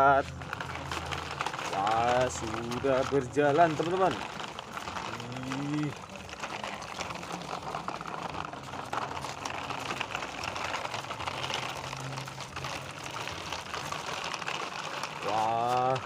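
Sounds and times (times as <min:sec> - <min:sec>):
plastic toy truck wheels rolling: 0:00.0 - 0:16.0.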